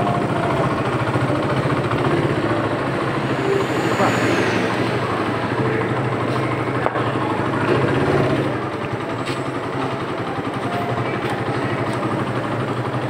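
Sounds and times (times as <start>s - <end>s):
motorcycle engine idling: 0.0s - 4.3s, 5.4s - 13.0s.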